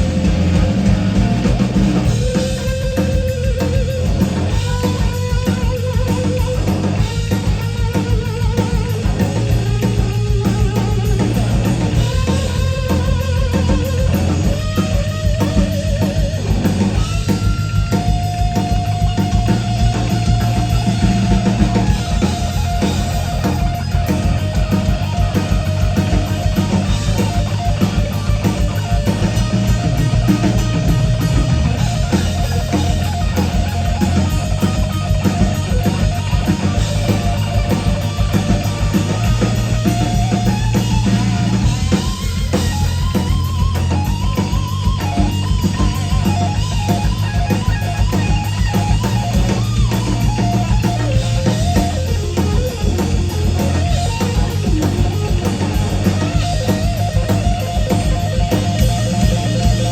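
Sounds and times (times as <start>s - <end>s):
electric guitar lead: 0.0s - 59.9s
rock band instrumental: 0.0s - 59.9s.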